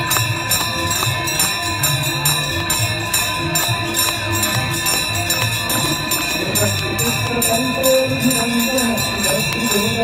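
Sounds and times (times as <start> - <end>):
devotional music: 0.0 - 10.0
jingling tambourine percussion: 0.0 - 10.0
ringing bells: 0.0 - 10.0.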